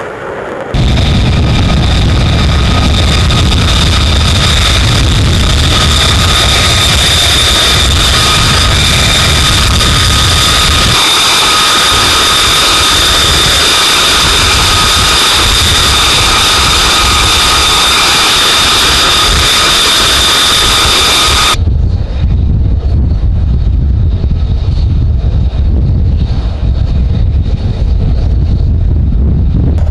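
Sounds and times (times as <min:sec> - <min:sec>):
deep jet engine rumble: 0:00.0 - 0:29.9
jet engine turbine whine: 0:00.0 - 0:29.9.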